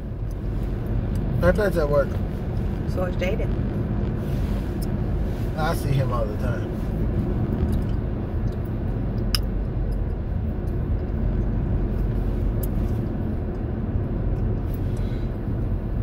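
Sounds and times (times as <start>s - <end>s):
car cabin road and engine noise: 0.0s - 16.0s.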